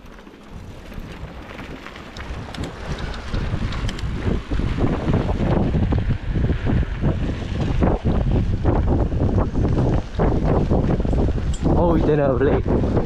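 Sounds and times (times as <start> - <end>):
tyres crunching on gravel: 0.0 - 12.5
bike rattling over bumps: 0.0 - 13.0
wind buffeting microphone: 0.0 - 13.0.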